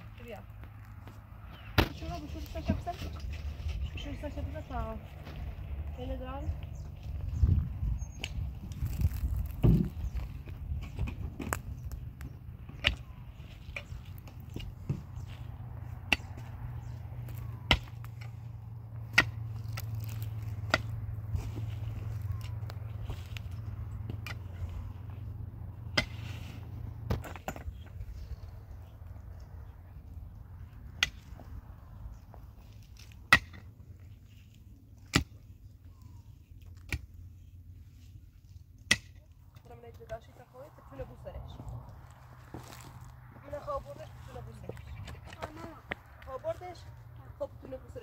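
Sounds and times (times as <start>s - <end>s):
low steady rumble: 0.0s - 48.0s.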